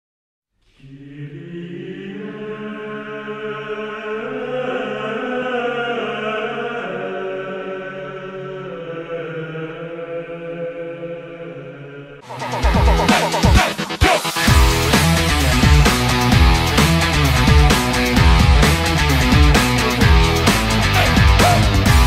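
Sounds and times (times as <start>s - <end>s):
slow choral music: 0.6s - 22.0s.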